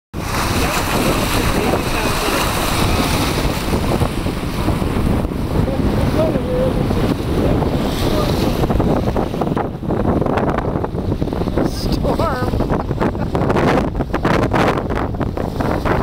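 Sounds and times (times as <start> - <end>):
water rushing past hull: 0.1 - 16.0
wind buffeting microphone: 0.1 - 16.0.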